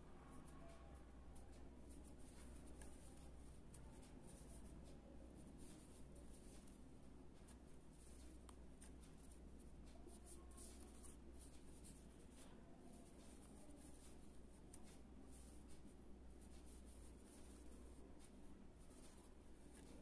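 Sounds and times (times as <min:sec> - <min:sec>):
low steady hum: 0:00.0 - 0:20.0
yarn rustling through crochet stitches: 0:00.0 - 0:20.0.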